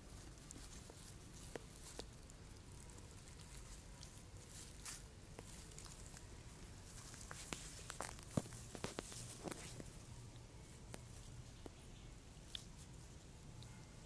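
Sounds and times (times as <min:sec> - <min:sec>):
rustling in grass: 0:00.0 - 0:13.4.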